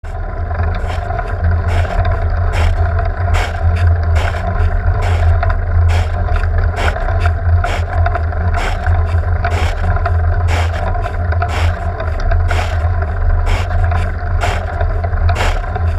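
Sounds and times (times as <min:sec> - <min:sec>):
engine and tyres on wet road: 0:00.0 - 0:15.9.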